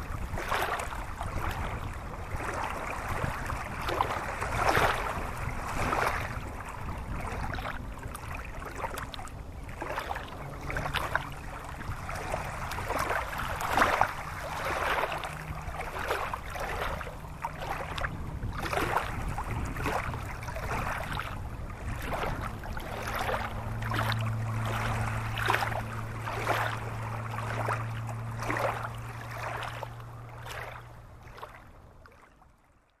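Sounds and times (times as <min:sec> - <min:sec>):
low steady hum: 0:00.0 - 0:33.0
small water splashes: 0:00.0 - 0:33.0.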